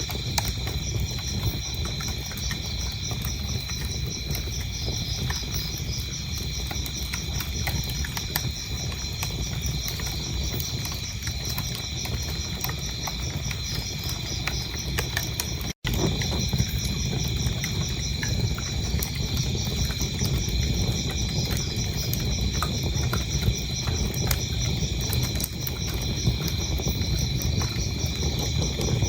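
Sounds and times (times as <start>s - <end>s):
crickets chirping: 0.0s - 29.0s
wood fire crackling: 0.0s - 29.0s.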